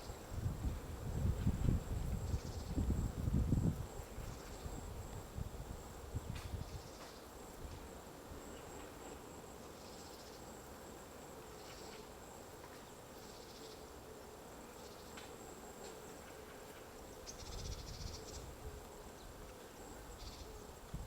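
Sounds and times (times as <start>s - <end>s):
soft outdoor hiss: 0.0s - 21.0s.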